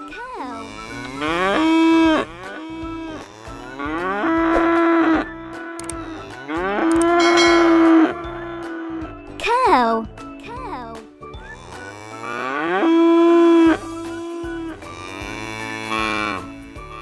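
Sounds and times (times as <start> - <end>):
cow mooing: 0.0 - 9.4, 11.4 - 17.0.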